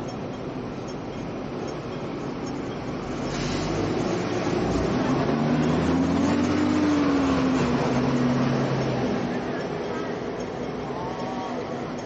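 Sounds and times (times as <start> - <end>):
street traffic noise: 0.0 - 12.0
bus engine passing close: 1.6 - 12.0.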